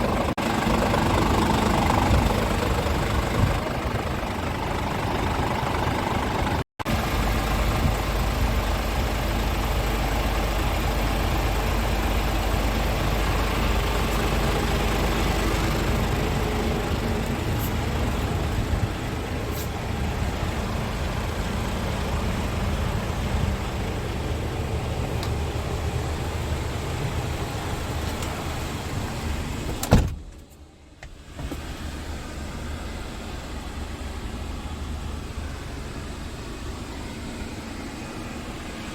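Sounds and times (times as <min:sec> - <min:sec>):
diesel engine idling: 0:00.0 - 0:29.8, 0:30.6 - 0:38.9.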